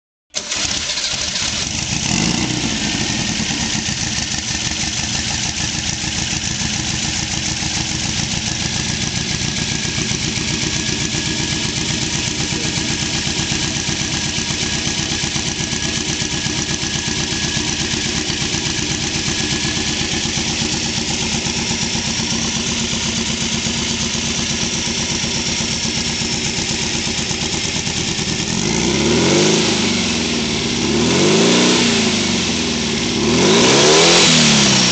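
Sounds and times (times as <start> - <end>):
car engine idling: 0.4 - 28.8.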